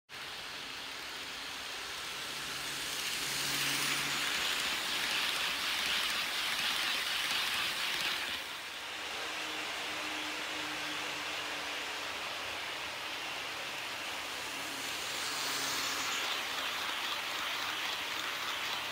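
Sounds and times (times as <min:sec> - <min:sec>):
model train rolling on track: 0:00.2 - 0:08.8, 0:10.3 - 0:18.9.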